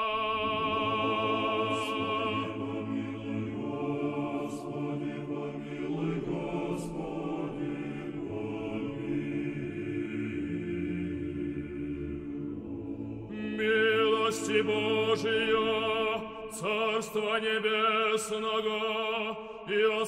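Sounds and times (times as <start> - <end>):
unaccompanied voices chanting: 0.0 - 16.8.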